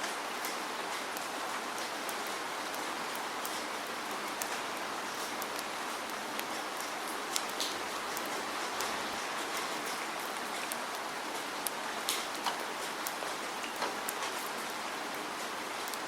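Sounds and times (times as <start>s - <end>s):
rain pattering on a surface: 0.0s - 16.0s.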